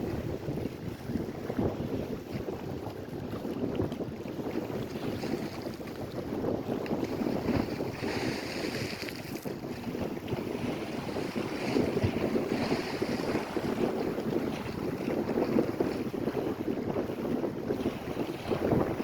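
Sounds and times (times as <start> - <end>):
waves lapping at shore: 0.0 - 19.0
wind buffeting microphone: 0.0 - 19.0.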